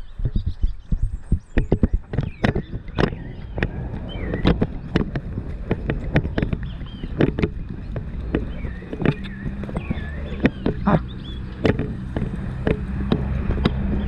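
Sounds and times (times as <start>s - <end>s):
horse hoofbeats: 0.0s - 14.0s
wind rumble on microphone: 0.0s - 14.0s.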